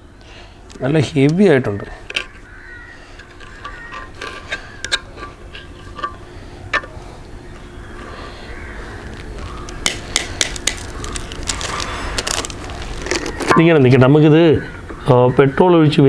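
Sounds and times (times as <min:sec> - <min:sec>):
steady low hum: 0:00.0 - 0:15.1.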